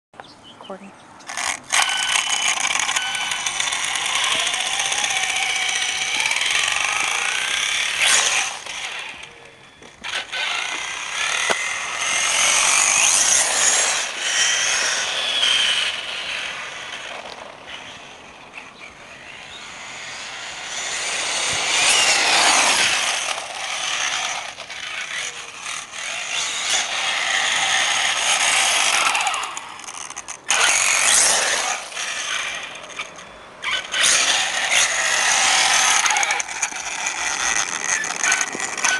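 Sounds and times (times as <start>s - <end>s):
electric motor whining: 1.3s - 38.9s.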